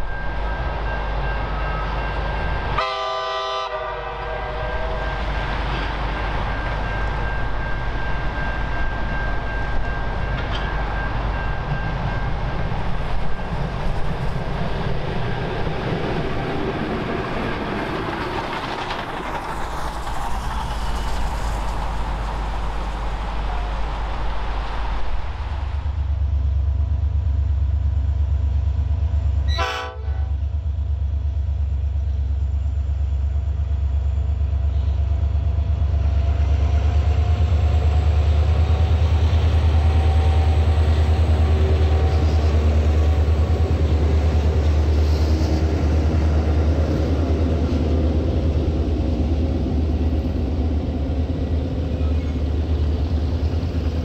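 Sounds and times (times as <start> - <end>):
diesel locomotives rumbling past: 0.0 - 54.0.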